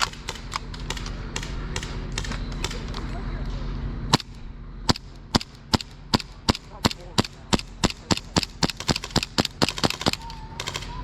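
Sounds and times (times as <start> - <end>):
airsoft gun shots: 0.0 - 3.1, 4.1 - 11.0.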